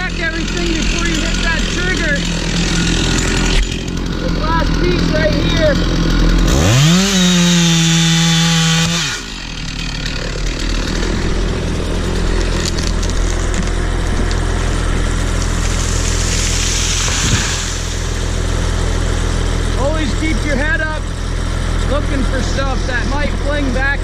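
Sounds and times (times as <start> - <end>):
chainsaw at full throttle: 0.0 - 20.3
chainsaw engine idling: 0.0 - 24.0.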